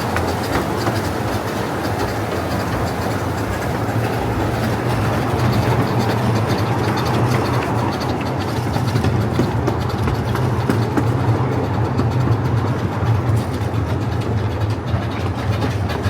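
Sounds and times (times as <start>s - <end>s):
train cars rumbling on rails: 0.0s - 16.0s.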